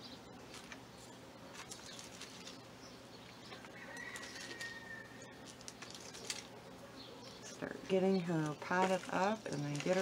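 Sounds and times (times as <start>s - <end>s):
hands rustling potting mix: 0.4s - 6.6s, 7.4s - 10.0s.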